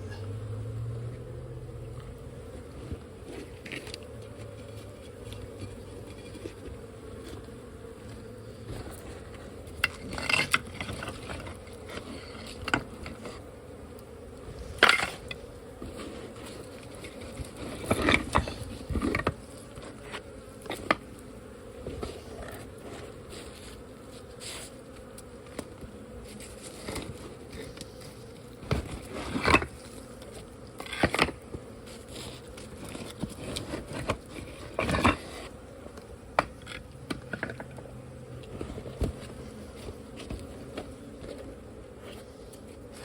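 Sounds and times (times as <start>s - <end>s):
honeybees buzzing: 0.0s - 43.0s
knocks and clinks on hive: 2.6s - 13.6s, 14.5s - 41.7s.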